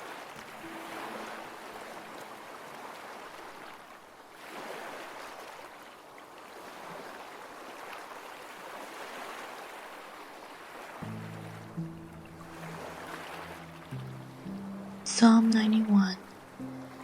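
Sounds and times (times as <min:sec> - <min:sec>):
gentle ocean waves: 0:00.0 - 0:17.0.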